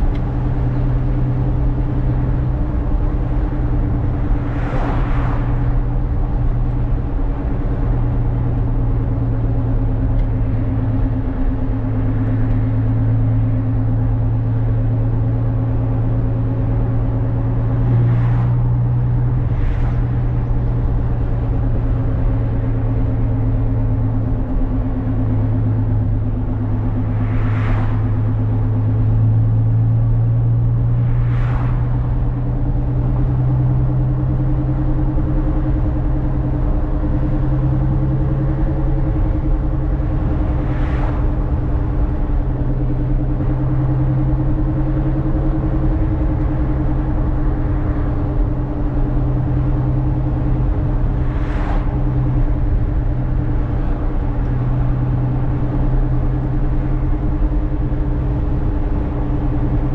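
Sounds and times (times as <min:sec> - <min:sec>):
car engine cruising: 0:00.0 - 0:59.9
tyre and road noise: 0:00.0 - 0:59.9.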